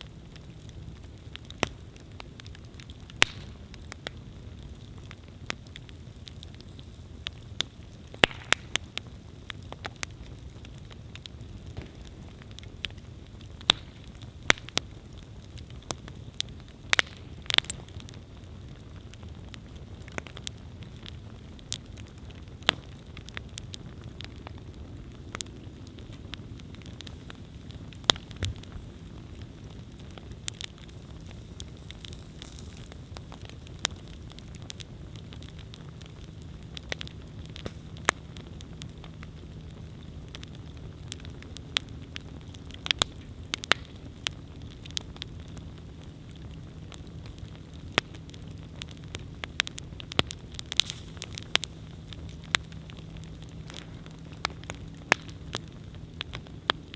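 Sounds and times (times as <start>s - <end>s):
campfire flames rumbling: 0.0s - 56.9s
wood crackling and popping: 0.0s - 56.9s.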